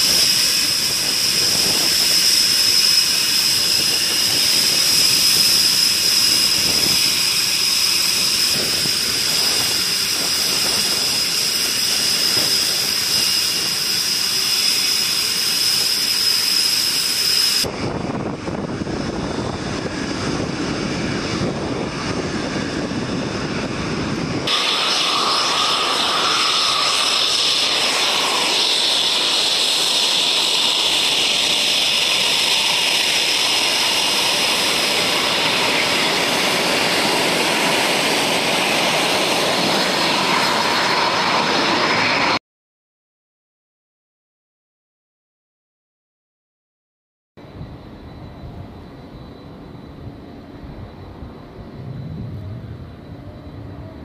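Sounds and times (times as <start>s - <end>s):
jet engines whining: 0.0s - 42.4s, 47.4s - 54.0s
lower rushing engine noise: 0.0s - 42.4s, 47.4s - 54.0s.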